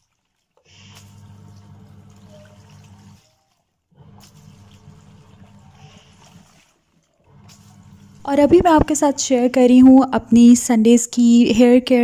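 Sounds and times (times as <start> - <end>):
soapy water sloshing: 0.0 - 10.1
washing machine motor hum: 0.2 - 10.6.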